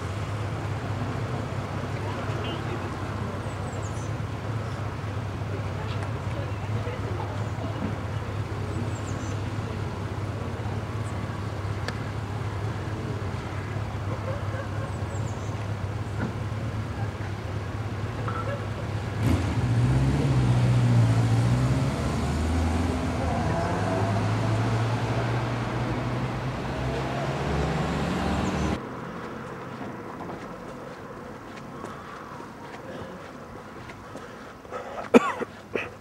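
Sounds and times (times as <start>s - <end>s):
street noise: 0.0s - 36.0s
vehicle engine humming: 0.0s - 36.0s.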